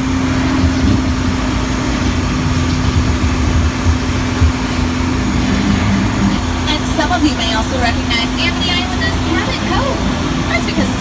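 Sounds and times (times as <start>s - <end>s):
constant hum: 0.0s - 11.0s
tram engine rumble: 0.0s - 11.0s.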